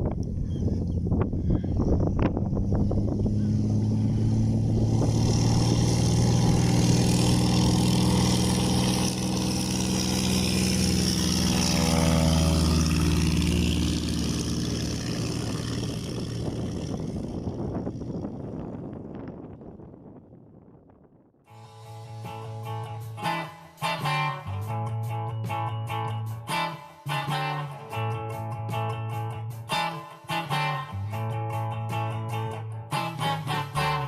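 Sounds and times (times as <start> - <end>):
propeller plane engine drone: 0.0 - 34.0.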